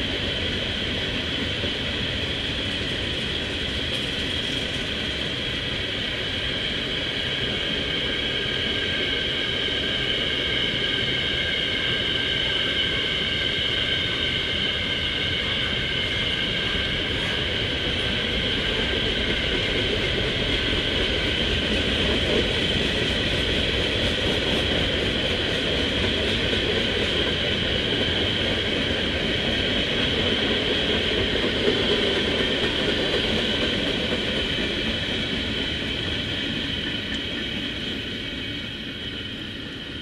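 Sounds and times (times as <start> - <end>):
freight train cars rolling past: 0.0 - 40.0.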